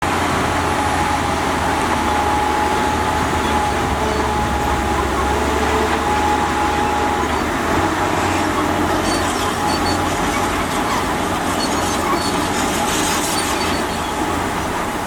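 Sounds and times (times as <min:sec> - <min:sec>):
heavy machinery engine drone: 0:00.0 - 0:15.0.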